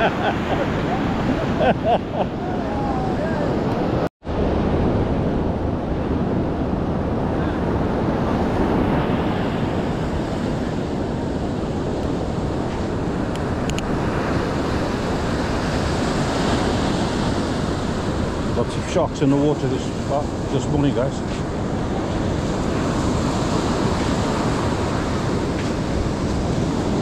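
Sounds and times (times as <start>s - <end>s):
surf breaking on shore: 0.0s - 27.0s
wind buffeting microphone: 0.0s - 27.0s.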